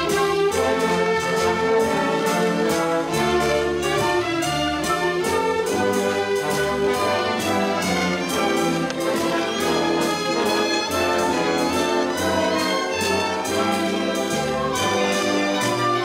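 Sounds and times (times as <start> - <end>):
brass section: 0.0 - 16.0
orchestra playing a waltz: 0.0 - 16.0.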